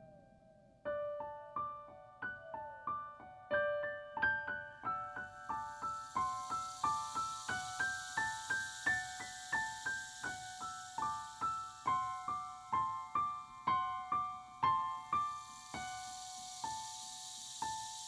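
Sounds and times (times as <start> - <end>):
slow keyboard melody: 0.0 - 18.0.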